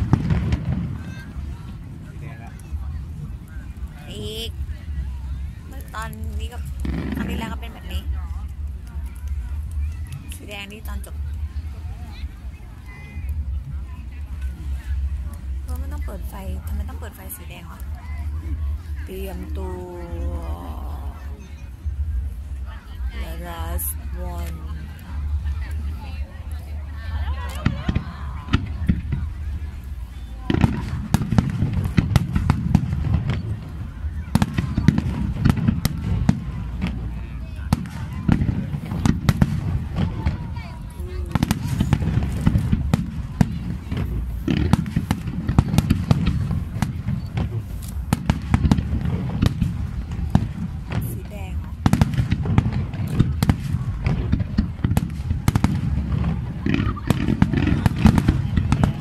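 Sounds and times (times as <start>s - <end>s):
fireworks bangs: 0.0s - 11.6s, 12.9s - 59.0s
crowd voices: 0.0s - 59.0s
low rumble: 0.0s - 59.0s.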